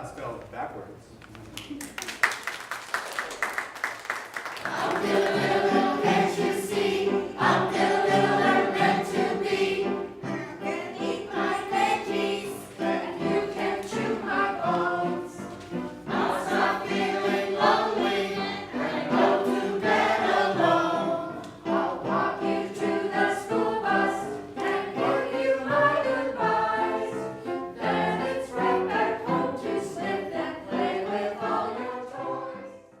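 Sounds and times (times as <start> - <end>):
choir singing: 4.6 - 33.0.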